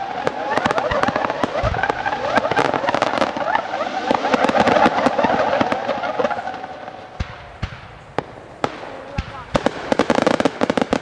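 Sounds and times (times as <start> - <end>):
fireworks bangs: 0.0 - 11.0
fireworks cracks: 0.0 - 11.0
whistling fireworks: 0.0 - 11.0.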